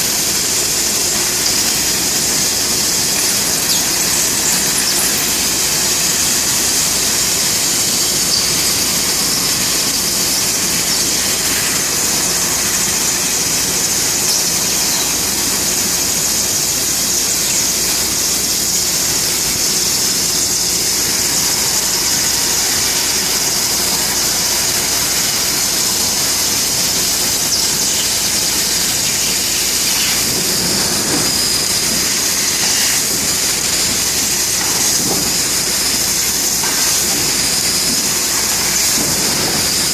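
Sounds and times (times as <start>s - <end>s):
laser cutter hissing squeal: 0.0s - 39.9s.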